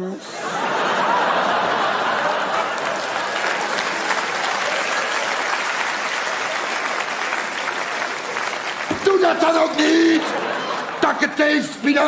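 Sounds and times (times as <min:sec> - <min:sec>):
audience applauding: 0:00.8 - 0:12.0.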